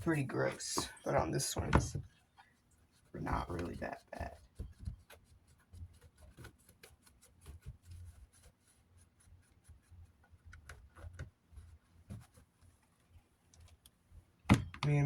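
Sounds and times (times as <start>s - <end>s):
soft rubbing: 0.0s - 13.8s.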